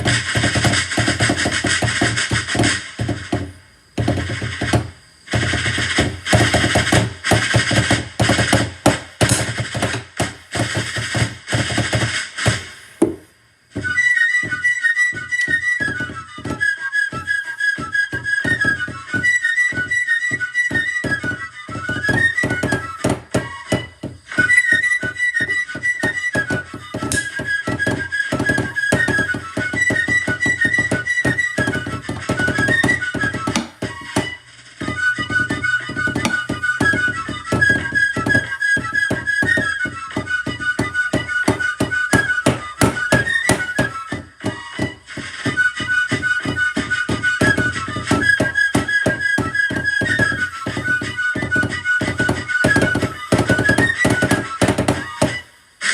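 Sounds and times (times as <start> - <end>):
rapid rudimental drumming: 0.0 - 55.4
shrill fife melody: 0.0 - 55.9.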